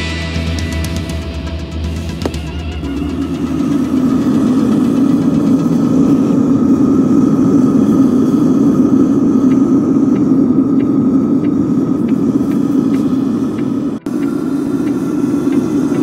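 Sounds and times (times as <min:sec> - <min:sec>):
gas burner roaring flame: 0:00.0 - 0:16.0.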